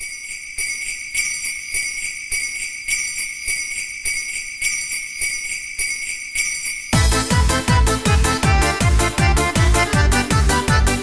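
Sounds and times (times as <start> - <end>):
jingle bells shaken: 0.0 - 10.8.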